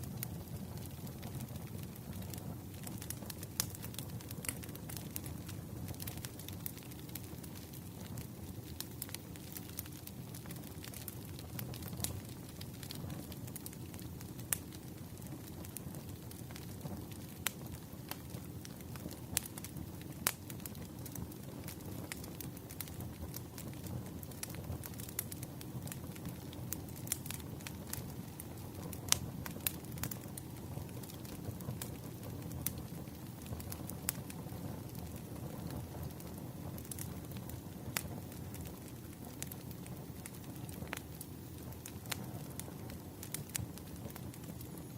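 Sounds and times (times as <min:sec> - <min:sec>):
fire snapping and popping: 0:00.0 - 0:44.9
low rumble of burning: 0:00.0 - 0:44.9.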